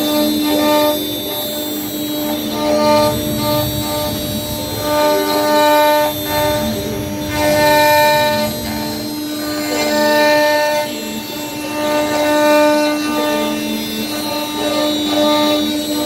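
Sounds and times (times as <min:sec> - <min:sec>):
bit cutting noise: 0:00.0 - 0:15.7
router spindle whining: 0:00.0 - 0:16.0.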